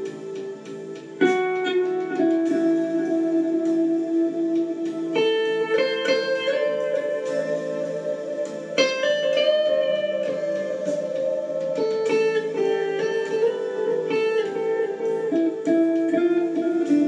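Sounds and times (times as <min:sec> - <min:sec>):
ambient electric guitar: 0:00.0 - 0:17.0.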